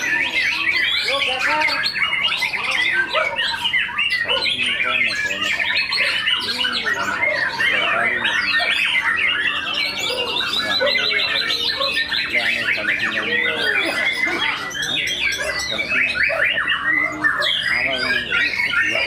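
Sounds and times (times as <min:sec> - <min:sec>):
chorus of songbirds trilling: 0:00.0 - 0:19.0.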